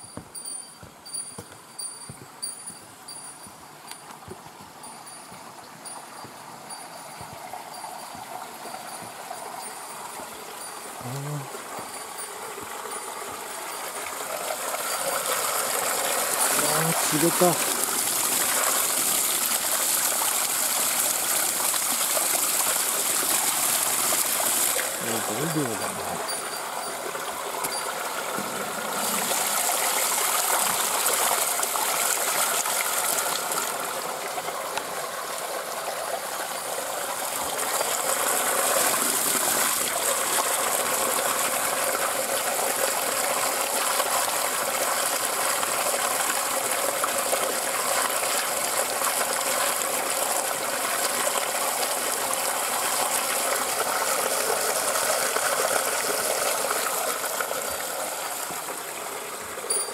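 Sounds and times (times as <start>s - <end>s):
water stream splashing: 2.0s - 59.9s.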